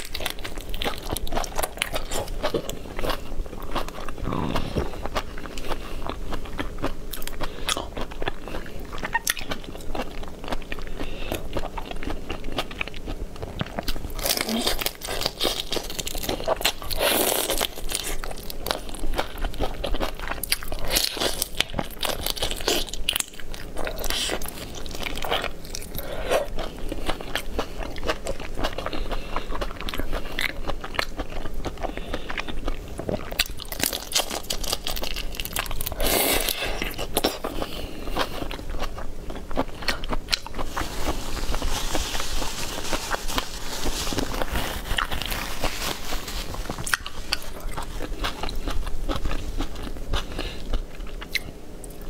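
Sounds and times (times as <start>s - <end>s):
crunchy shell chewing: 0.0s - 52.0s.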